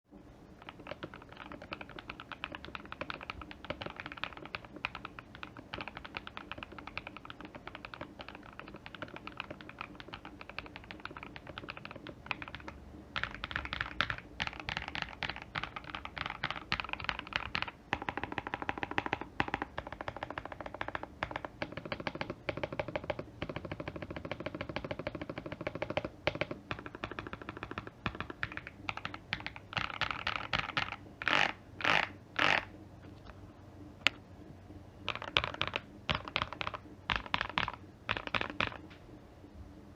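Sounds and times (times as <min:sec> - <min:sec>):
mechanical keyboard typing: 0:00.6 - 0:32.7, 0:35.0 - 0:38.8.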